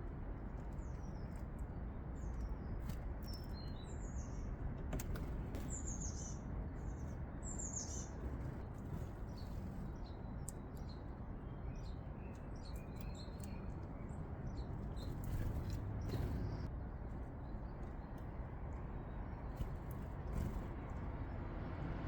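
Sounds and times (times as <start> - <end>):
low background rumble: 0.0 - 21.8
small birds chirping: 0.0 - 21.8.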